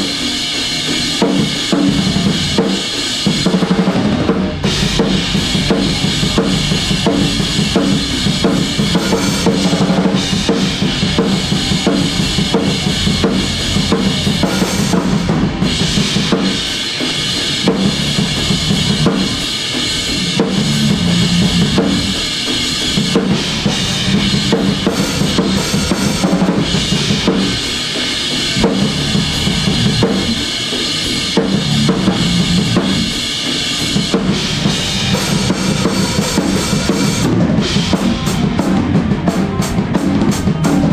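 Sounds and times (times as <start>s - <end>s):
cymbals: 0.0s - 40.9s
band playing sustained chords: 1.4s - 40.9s.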